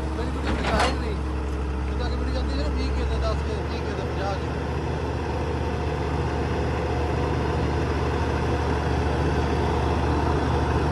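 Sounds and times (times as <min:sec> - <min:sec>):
diesel engine humming: 0:00.0 - 0:10.9.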